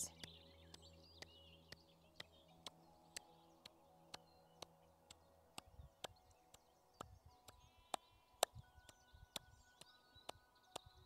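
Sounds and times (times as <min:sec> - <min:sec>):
hands clapping steadily: 0:00.0 - 0:11.0.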